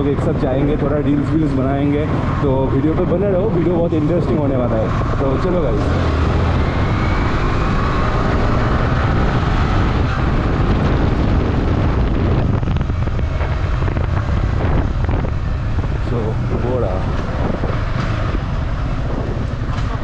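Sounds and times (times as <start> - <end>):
motorcycle engine accelerating: 0.0 - 20.0
wind noise on microphone: 0.0 - 20.0.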